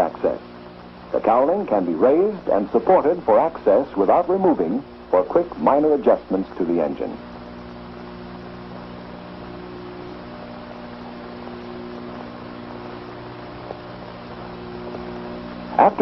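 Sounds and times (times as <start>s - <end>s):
mains hum: 0.0s - 16.0s.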